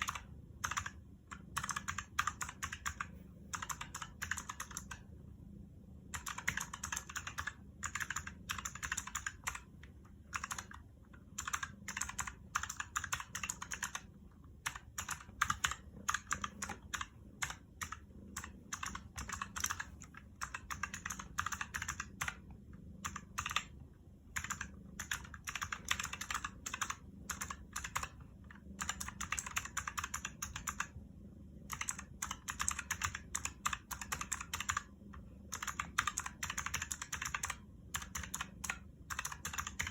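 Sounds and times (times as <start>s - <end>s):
clicky keyboard typing: 0.0s - 5.2s, 6.0s - 39.9s.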